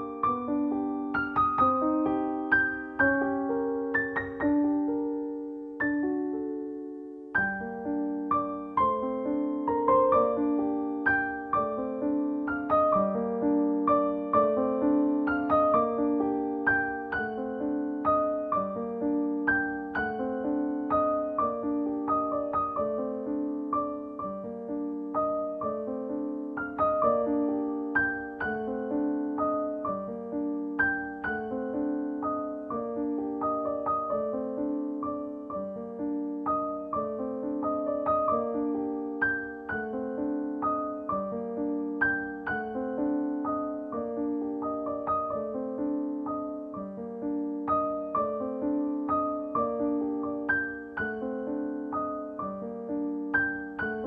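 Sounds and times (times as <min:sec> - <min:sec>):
gentle piano music: 0:00.0 - 0:54.0.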